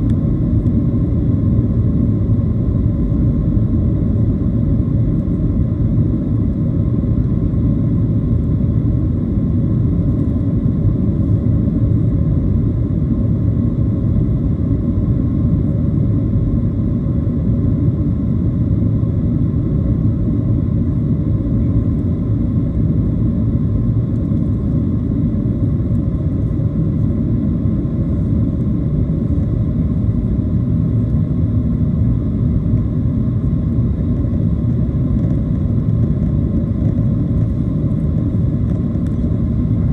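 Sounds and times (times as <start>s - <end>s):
faint steady whine: 0.0s - 39.9s
jet engine cabin rumble: 0.0s - 39.9s.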